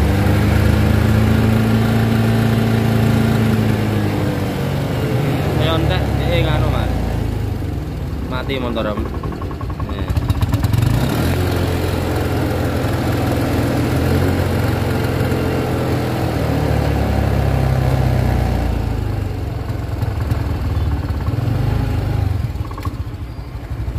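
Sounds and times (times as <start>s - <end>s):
scooter engine sputtering: 0.0s - 23.9s.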